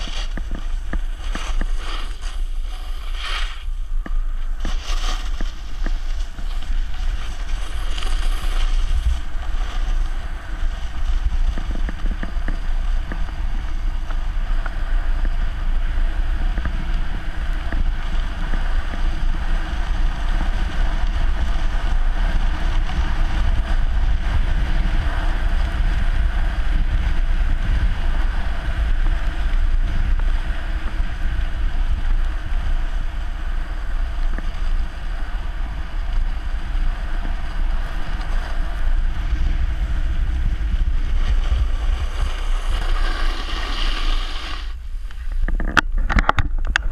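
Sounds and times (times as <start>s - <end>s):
skis hissing on packed snow: 0.0s - 45.4s
wind rumbling on microphone: 0.0s - 46.9s.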